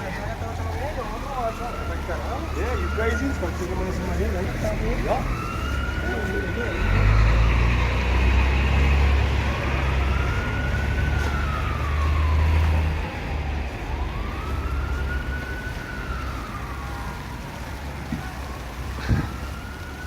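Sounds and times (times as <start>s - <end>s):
emergency vehicle siren wailing: 0.0s - 20.0s.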